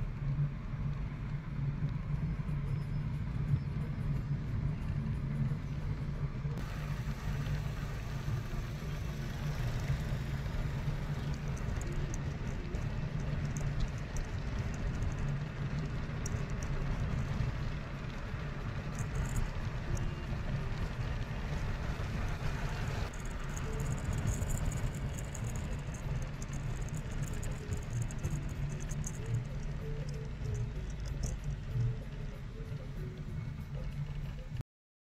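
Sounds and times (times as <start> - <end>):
car engine and tyres rumbling: 0.0 - 34.6
rushing air and road noise: 0.0 - 34.6.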